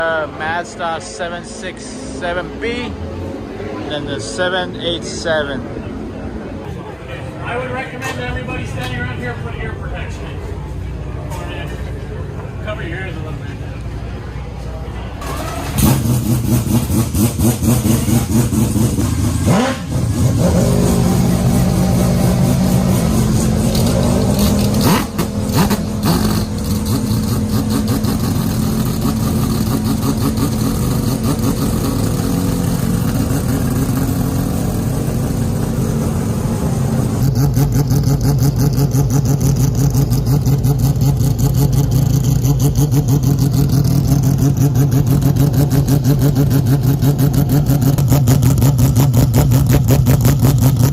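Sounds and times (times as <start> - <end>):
engine throttle blips: 0.0 - 50.9
rotary racing engine idling: 4.3 - 50.9.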